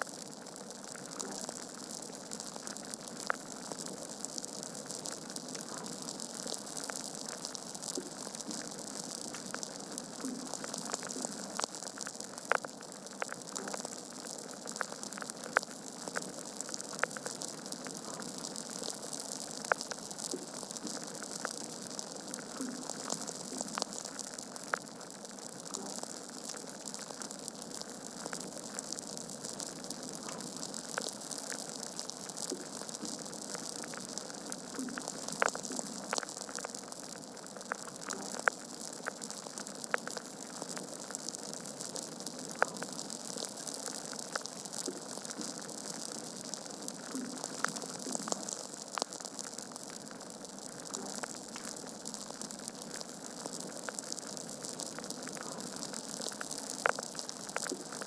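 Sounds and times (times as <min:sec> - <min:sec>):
wood fire crackling and popping: 0:00.1 - 0:58.0.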